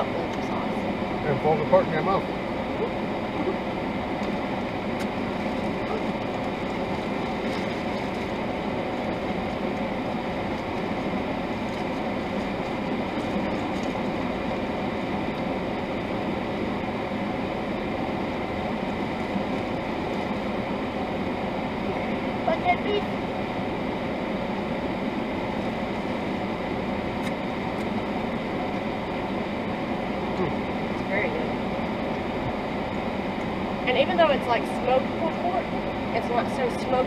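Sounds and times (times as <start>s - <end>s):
car engine and fan hum: 0.0s - 37.0s.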